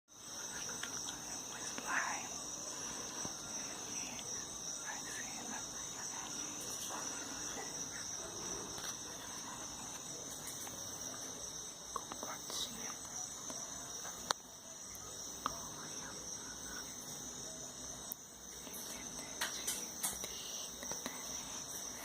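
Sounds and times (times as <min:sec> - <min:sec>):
steady high-pitched whine: 0:00.1 - 0:22.0.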